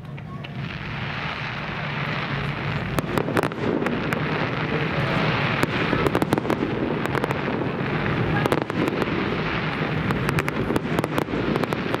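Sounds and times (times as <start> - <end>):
fireworks cracks and pops: 0.0 - 12.0
fireworks hiss: 0.0 - 12.0.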